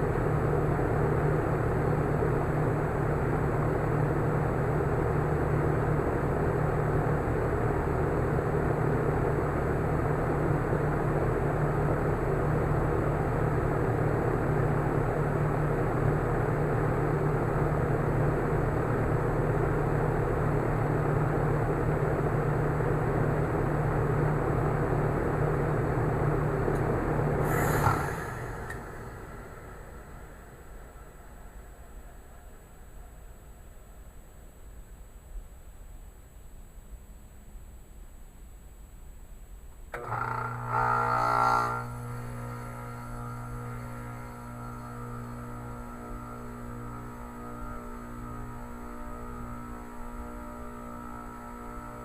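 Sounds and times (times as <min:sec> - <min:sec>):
heat pump humming: 0:00.0 - 0:32.1, 0:39.9 - 0:52.0.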